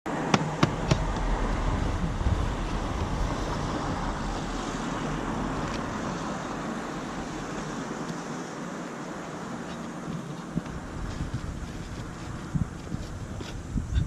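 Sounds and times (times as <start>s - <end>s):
steady rushing noise: 0.1s - 14.0s.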